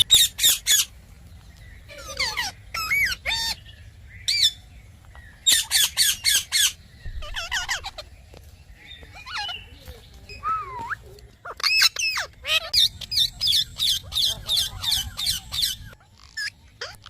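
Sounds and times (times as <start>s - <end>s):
parrots chattering: 0.0s - 1.0s, 1.8s - 8.4s, 9.0s - 17.0s
parrots squawking and screeching: 0.0s - 1.0s, 1.8s - 4.6s, 5.4s - 8.2s, 9.0s - 9.7s, 10.3s - 17.0s.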